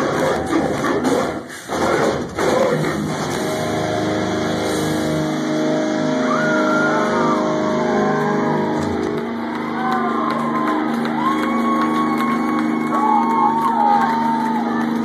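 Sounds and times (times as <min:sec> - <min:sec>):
distorted guitars and bass chord: 0:00.0 - 0:15.0.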